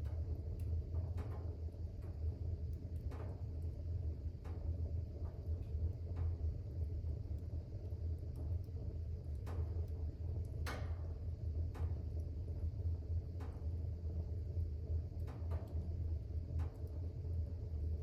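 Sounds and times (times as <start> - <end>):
fire crackles and pops: 0.0 - 18.0
fire rumbling in fireplace: 0.0 - 18.0.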